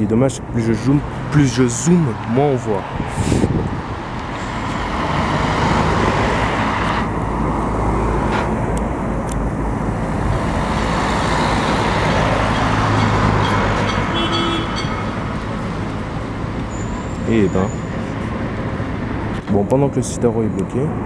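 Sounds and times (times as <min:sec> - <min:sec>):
bus and car engines running: 0:00.0 - 0:21.0.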